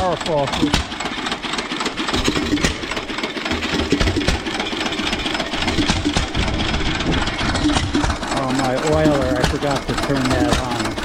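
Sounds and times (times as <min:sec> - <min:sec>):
stationary engine chugging: 0:00.0 - 0:11.0.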